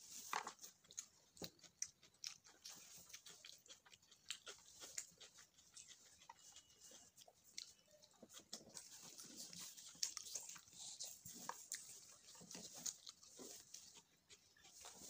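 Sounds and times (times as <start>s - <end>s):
person chewing with mouth smacks: 0.3s - 15.0s.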